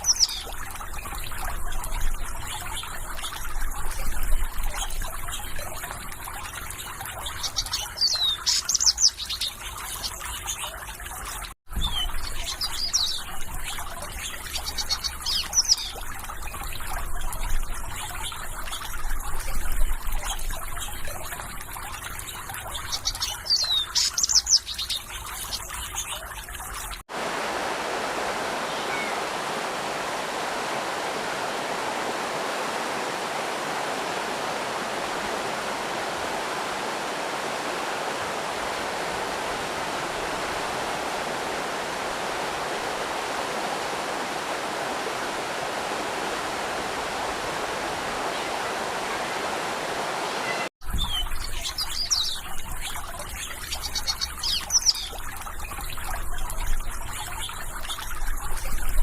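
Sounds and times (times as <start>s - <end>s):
birds chirping: 0.0s - 10.9s, 11.8s - 17.2s, 20.1s - 26.4s, 27.7s - 55.8s
rush of flowing water: 0.0s - 59.0s
water trickling: 0.0s - 59.0s.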